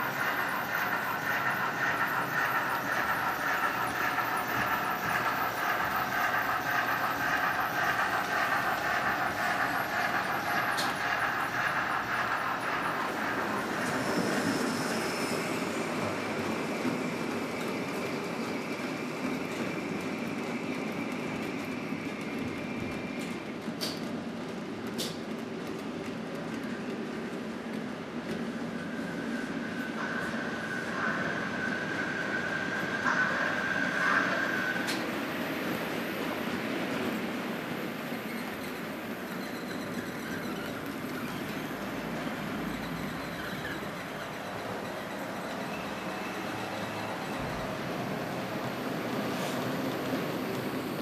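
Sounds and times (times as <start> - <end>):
model train whirring on track: 0.0 - 51.0.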